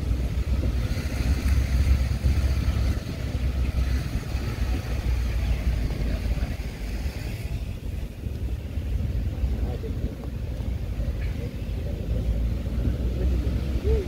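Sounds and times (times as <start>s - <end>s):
truck engine low rumble: 0.0s - 14.0s.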